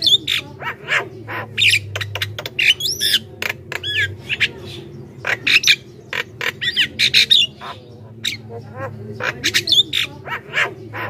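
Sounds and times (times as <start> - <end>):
myna chattering: 0.0 - 11.0.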